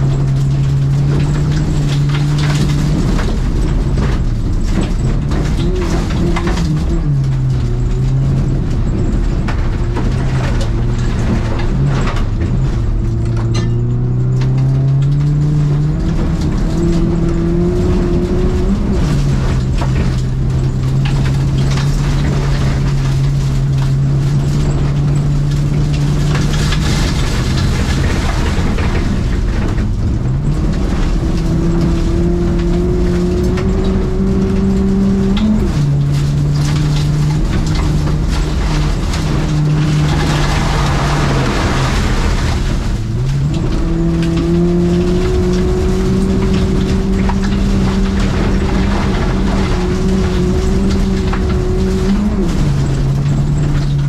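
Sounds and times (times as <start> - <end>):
car engine revving: 0.0 - 54.0
tyres rumbling on dirt: 0.0 - 54.0.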